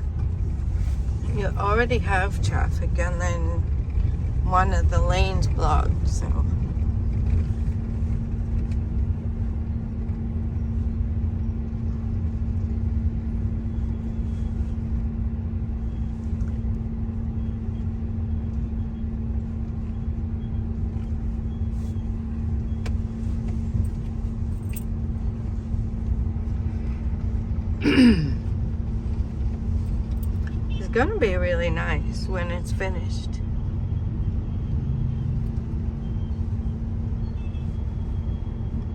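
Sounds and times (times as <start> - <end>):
steady hum: 0.0 - 38.9
truck driving rumble: 0.0 - 38.9.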